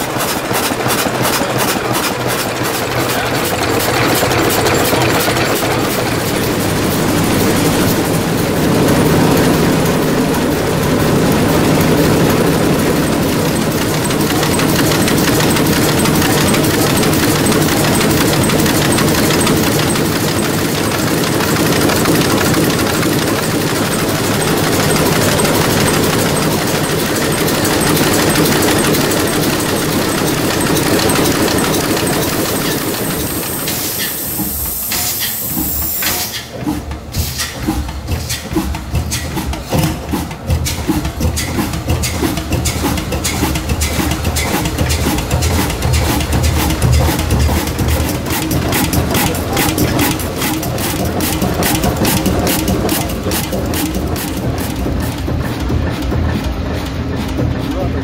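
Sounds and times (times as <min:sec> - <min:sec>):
large diesel engine running: 0:00.0 - 0:58.0.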